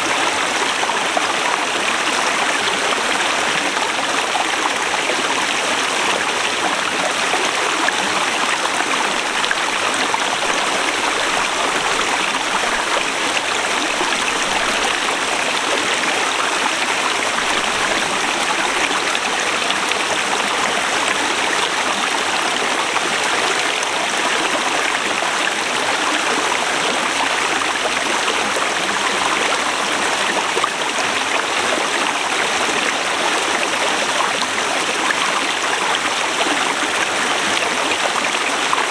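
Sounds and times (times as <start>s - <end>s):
river rushing over rocks: 0.1s - 38.9s.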